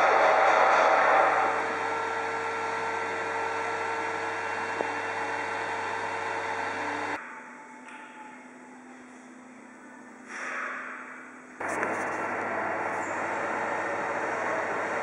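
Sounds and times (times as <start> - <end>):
machine hum with hiss: 0.0 - 7.2, 8.7 - 15.0.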